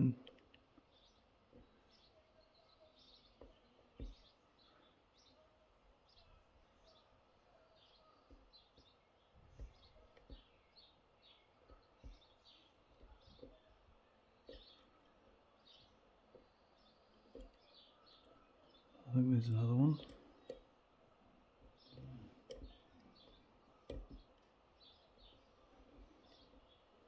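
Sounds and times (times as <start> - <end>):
small bird chirps: 0.0 - 27.0.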